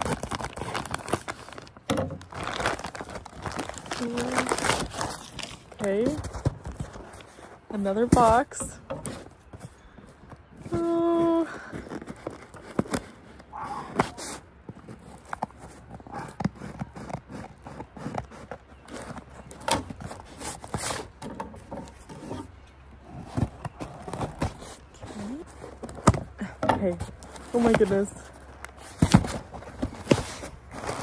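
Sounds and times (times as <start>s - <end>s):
cardboard box rustling and scraping: 0.0s - 31.0s.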